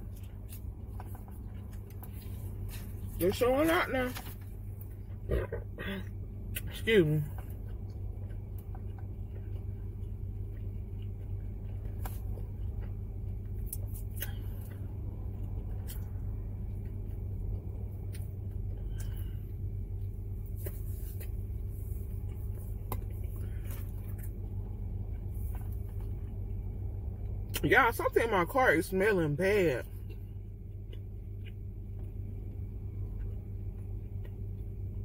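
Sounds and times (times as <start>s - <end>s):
chewing crunches: 0.0s - 27.7s, 29.5s - 35.0s.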